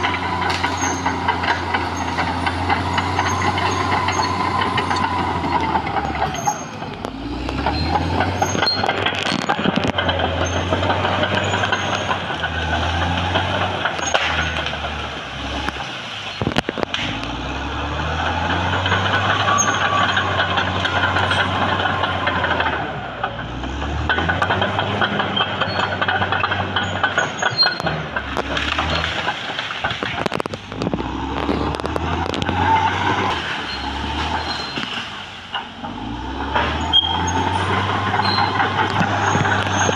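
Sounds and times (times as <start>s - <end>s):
bulldozer diesel engine working: 0.0s - 39.9s
wood cracking: 0.0s - 39.9s.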